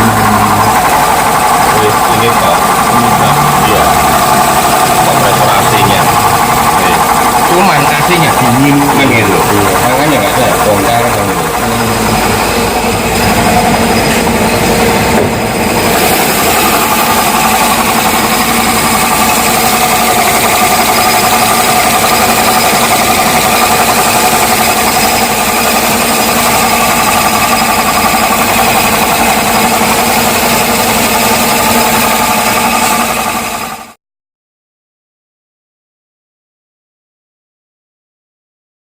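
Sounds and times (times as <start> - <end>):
ac compressor growling: 0.0 - 34.0
car engine idling: 0.0 - 34.0.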